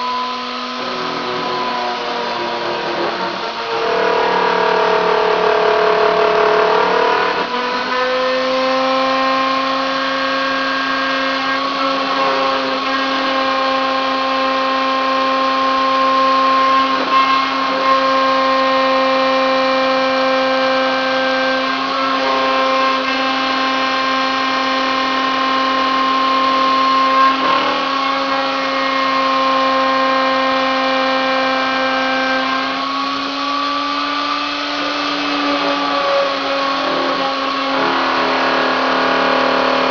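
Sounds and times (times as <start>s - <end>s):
milling machine high-pitched whine: 0.0s - 39.9s.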